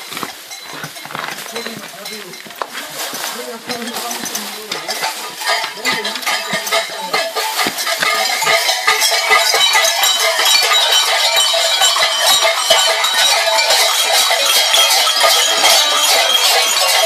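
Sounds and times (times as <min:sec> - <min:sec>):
bells clanging and jangling: 0:00.0 - 0:17.0.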